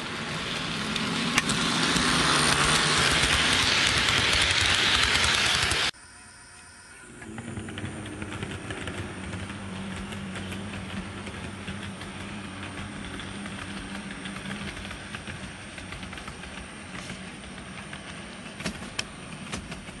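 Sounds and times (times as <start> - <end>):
wheels clicking on rails: 0.0 - 6.0, 7.1 - 20.0
model train motor hum: 0.0 - 20.0.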